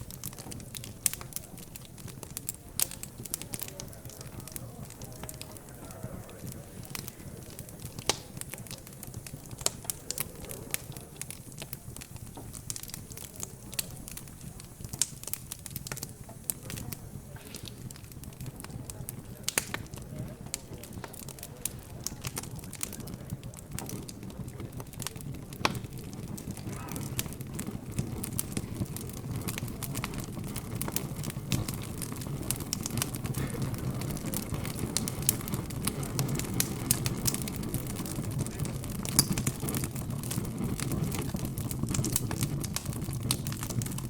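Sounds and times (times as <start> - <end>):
background chatter: 0.0 - 44.0
wood fire crackling: 0.0 - 44.0.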